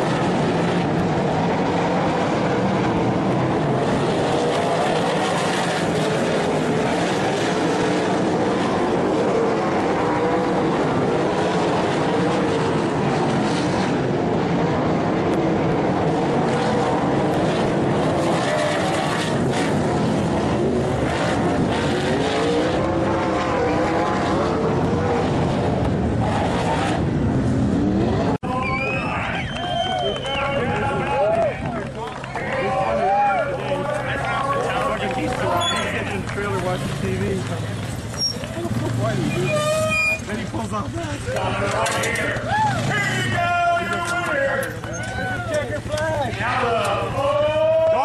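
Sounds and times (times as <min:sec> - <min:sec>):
race car engines running hard: 0:00.0 - 0:48.0.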